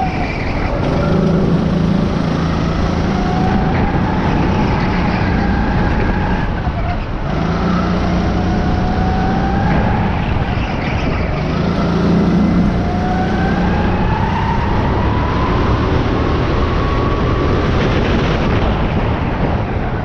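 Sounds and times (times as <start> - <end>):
kart engine revving: 0.0 - 19.8
rush of wind noise: 0.0 - 20.0.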